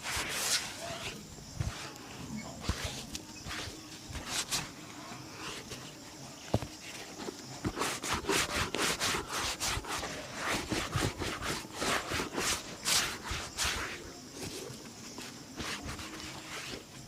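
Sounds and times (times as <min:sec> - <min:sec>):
rubbing strokes polishing shoe: 0:00.0 - 0:05.8, 0:06.5 - 0:17.0.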